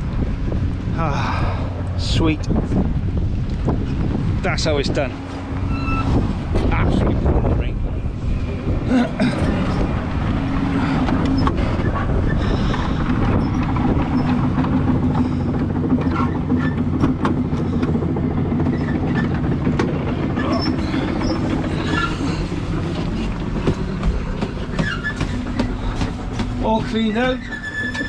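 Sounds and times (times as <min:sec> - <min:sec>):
excavator engine running: 0:00.0 - 0:28.0
steel tracks clanking and squeaking: 0:04.6 - 0:28.0.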